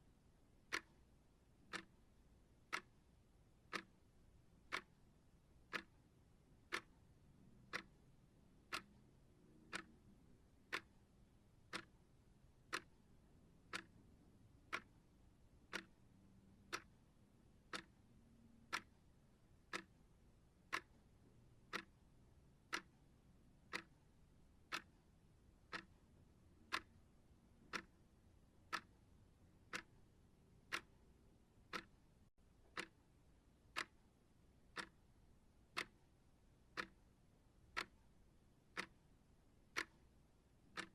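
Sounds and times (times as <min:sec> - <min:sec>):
clock ticking: 0:00.6 - 0:11.0, 0:11.6 - 0:12.0, 0:12.6 - 0:40.9.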